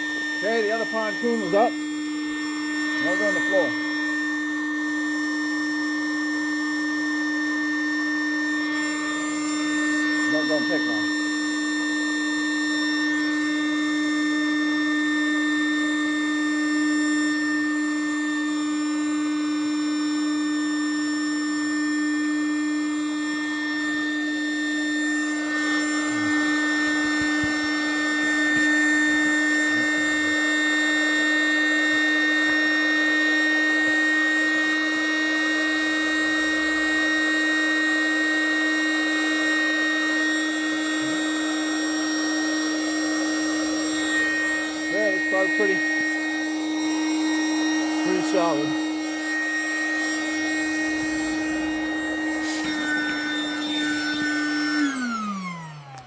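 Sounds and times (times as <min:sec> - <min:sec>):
air compressor humming: 0:00.0 - 0:56.0.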